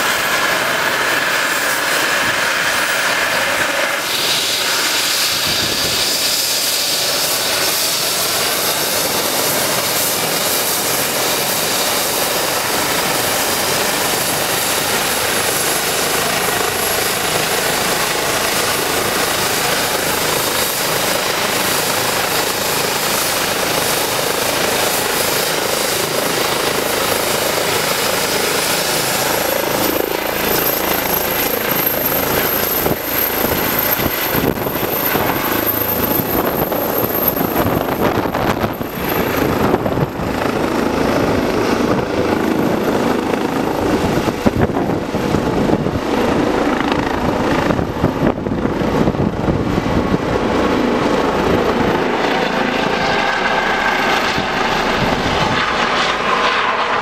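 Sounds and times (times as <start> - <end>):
helicopter engines and rotors whirring: 0.0 - 57.0.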